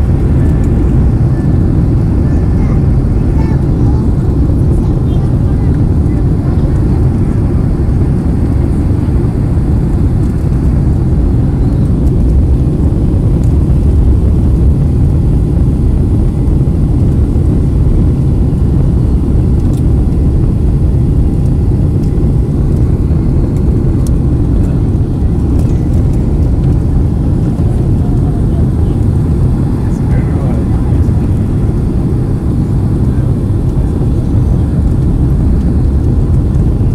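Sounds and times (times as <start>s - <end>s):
aircraft cabin engine rumble: 0.0s - 36.9s.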